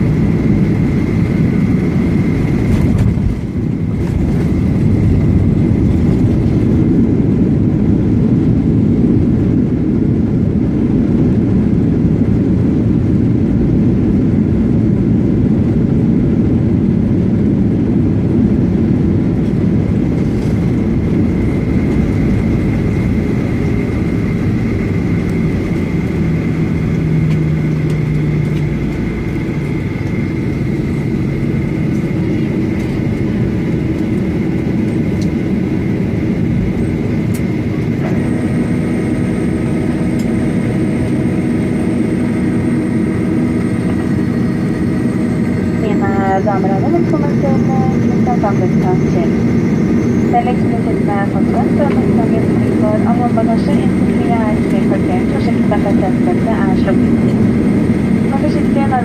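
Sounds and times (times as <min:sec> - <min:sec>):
aircraft cabin low rumble: 0:00.0 - 0:59.0
jet engines whining at idle: 0:00.0 - 0:59.0.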